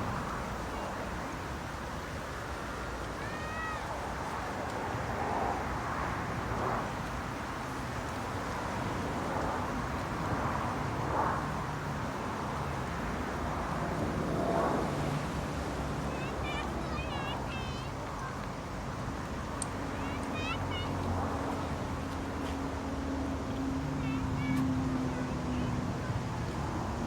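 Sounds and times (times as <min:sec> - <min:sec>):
rush of sea noise: 0:00.0 - 0:27.0.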